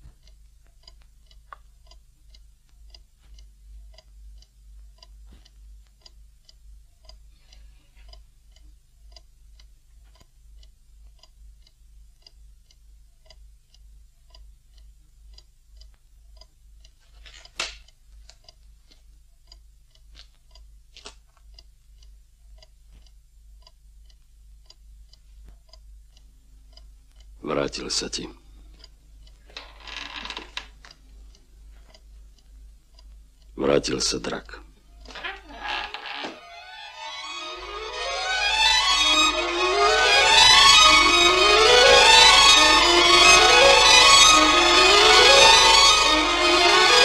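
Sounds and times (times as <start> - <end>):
clock ticking: 0.0 - 47.0.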